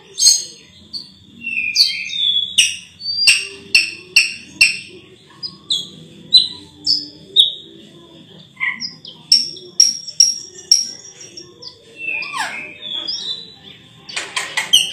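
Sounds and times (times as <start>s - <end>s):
thin steady high tone: 0.0s - 14.1s
myna singing whistled notes: 0.2s - 7.7s, 8.6s - 13.8s.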